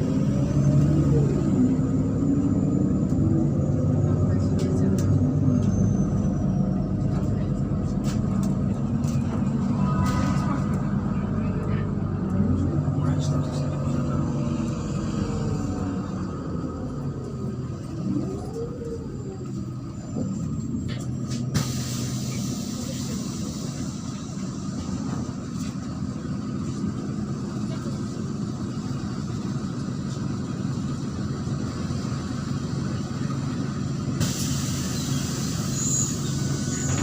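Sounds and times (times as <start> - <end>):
road and body noise: 0.0 - 35.5
bus engine drone: 0.0 - 37.0.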